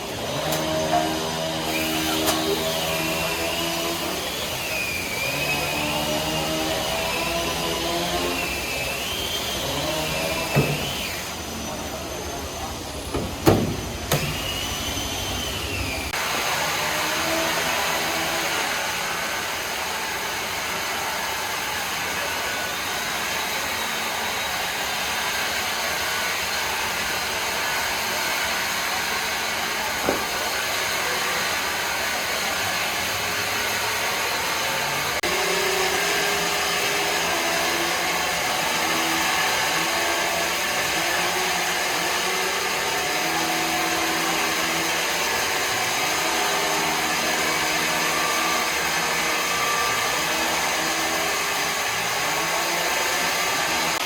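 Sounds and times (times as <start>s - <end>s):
woodworking machinery running: 0.0s - 54.0s.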